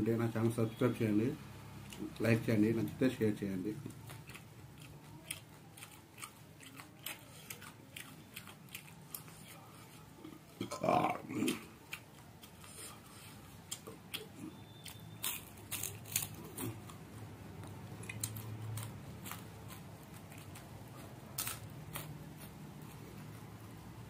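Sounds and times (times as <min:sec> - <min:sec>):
chewing crisp fried fish: 0:01.8 - 0:03.0, 0:03.6 - 0:23.4.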